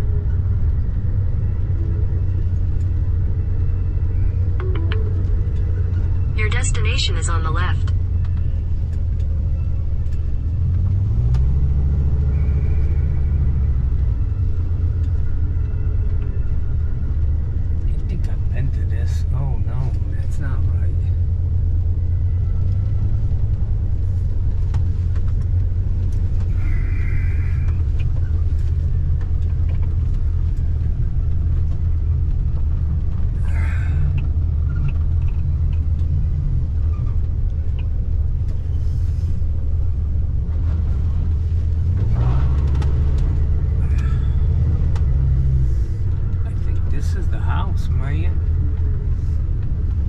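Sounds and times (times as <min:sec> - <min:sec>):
car engine and road noise: 0:00.0 - 0:50.0.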